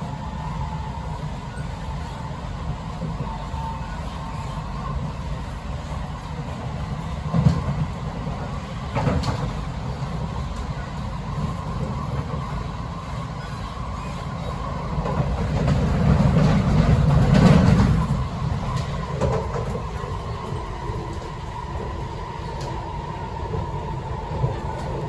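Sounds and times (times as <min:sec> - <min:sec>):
train wheel and rail rumble: 0:00.0 - 0:25.0.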